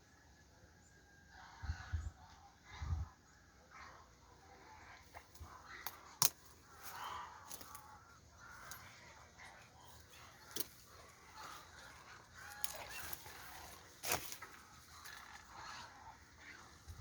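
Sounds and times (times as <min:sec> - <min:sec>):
birds and fowl calling: 0:00.0 - 0:17.0.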